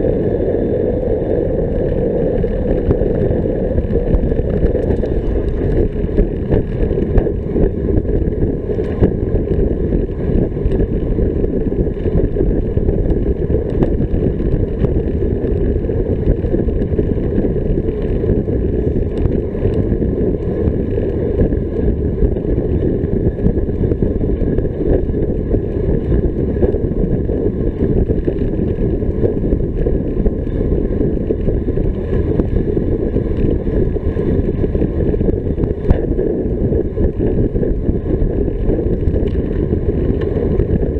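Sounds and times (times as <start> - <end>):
wind rumble on microphone: 0.0 - 40.9.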